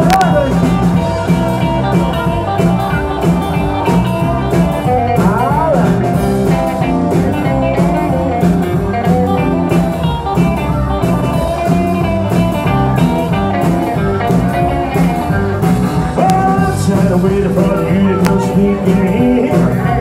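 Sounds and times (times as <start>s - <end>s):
electric guitar with bent notes: 0.0s - 20.0s
rockabilly band playing live: 0.0s - 20.0s.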